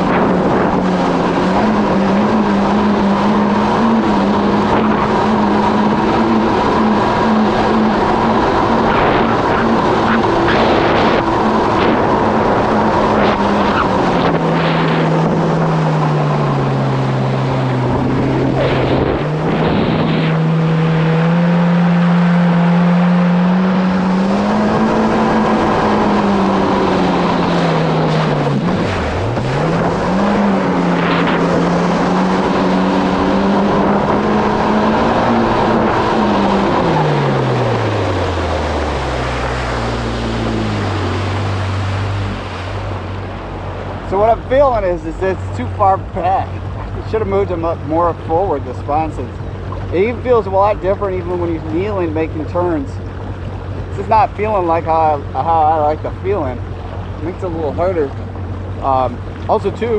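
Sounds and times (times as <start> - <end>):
jet ski engine running: 0.0 - 59.9
water rushing along hull: 0.0 - 59.9.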